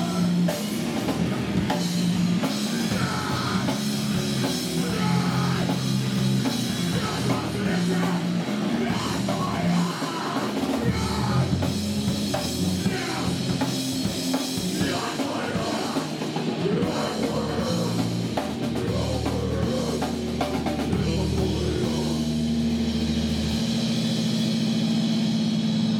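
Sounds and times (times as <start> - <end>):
distorted electric guitars: 0.0 - 25.9
drum kit: 0.0 - 25.9.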